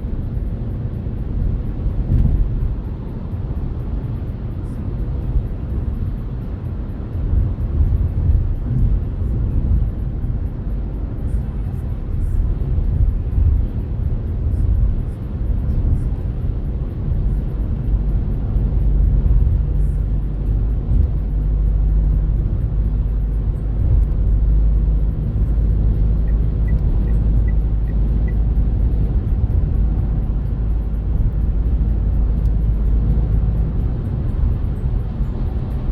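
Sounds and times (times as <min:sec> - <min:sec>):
car driving on road: 0:00.0 - 0:35.9.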